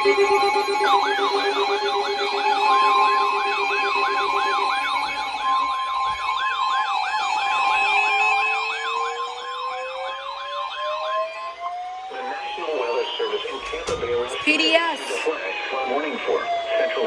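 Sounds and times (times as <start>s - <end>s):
steady beep-like tone: 0.0s - 11.6s, 12.2s - 16.1s
yelping siren tone: 0.0s - 17.0s.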